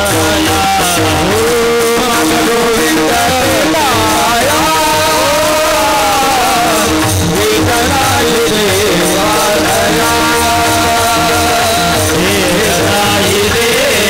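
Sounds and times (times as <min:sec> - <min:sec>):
hand cymbals struck rhythmically: 0:00.0 - 0:14.0
men singing together: 0:00.0 - 0:14.0.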